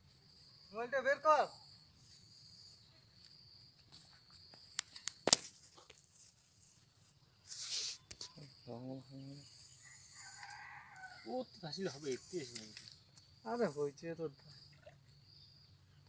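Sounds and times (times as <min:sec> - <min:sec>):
insects chirring: 0:00.0 - 0:16.0
rustling hiss: 0:01.3 - 0:14.8.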